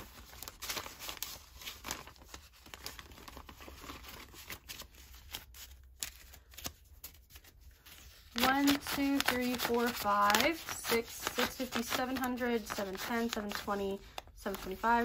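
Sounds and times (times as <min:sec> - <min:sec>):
paper banknotes rustling: 0:00.0 - 0:15.0.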